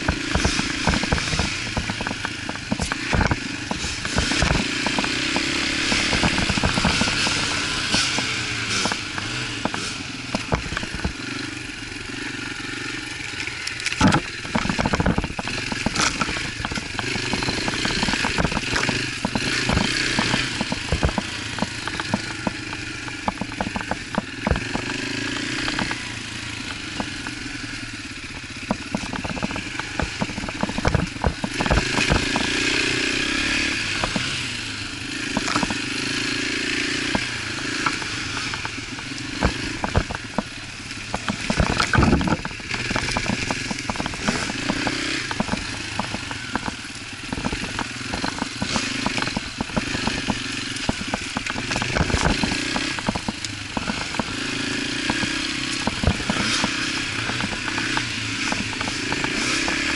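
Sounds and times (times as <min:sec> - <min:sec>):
bike knocks and rattles: 0:00.0 - 0:59.9
dirt bike engine: 0:00.0 - 0:59.9.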